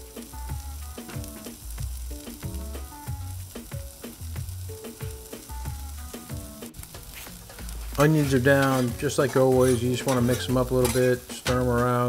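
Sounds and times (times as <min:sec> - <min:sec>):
background music with drum beat: 0:00.0 - 0:12.0
onions sizzling in oil: 0:00.0 - 0:12.0.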